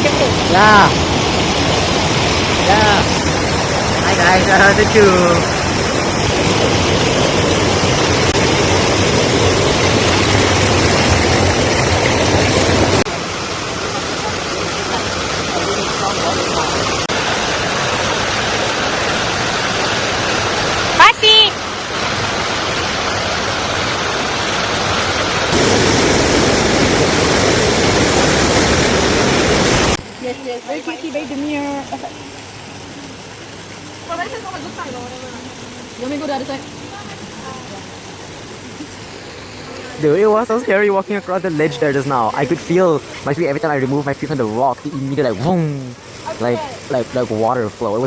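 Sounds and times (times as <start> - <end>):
waterfall roaring: 0.0 - 48.0.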